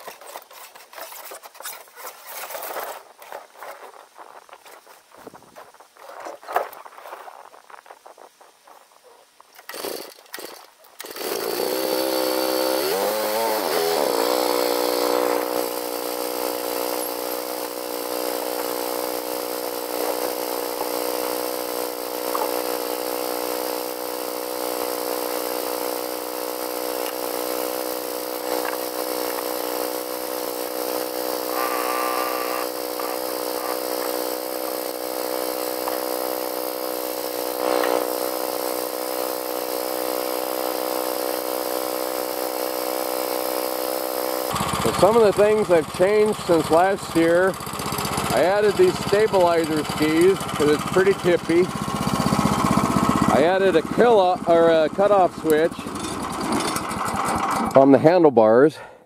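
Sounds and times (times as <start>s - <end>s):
small gas engine revving and idling: 9.6s - 58.2s.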